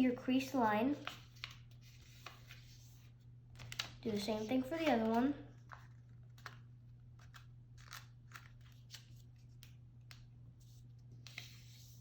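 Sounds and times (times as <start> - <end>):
low steady hum: 0.0 - 12.0
paper being folded and creased: 0.4 - 12.0.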